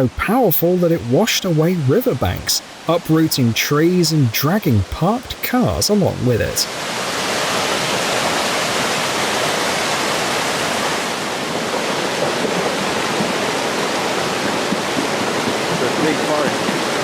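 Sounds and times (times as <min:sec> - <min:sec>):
flooded creek rushing: 0:00.0 - 0:17.0.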